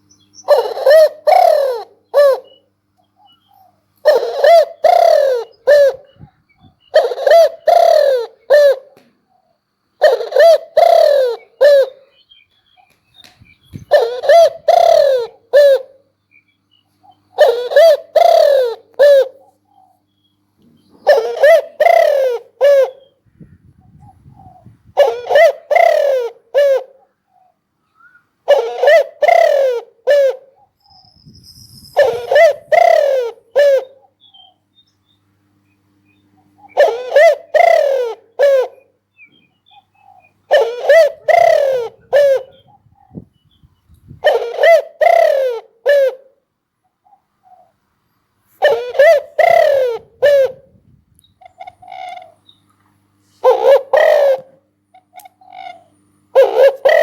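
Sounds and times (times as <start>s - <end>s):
dove cooing: 0.0s - 12.2s, 13.7s - 16.2s, 17.0s - 20.1s, 20.8s - 23.2s, 23.8s - 30.8s, 31.8s - 34.6s, 36.3s - 43.5s, 44.1s - 47.8s, 48.5s - 57.0s.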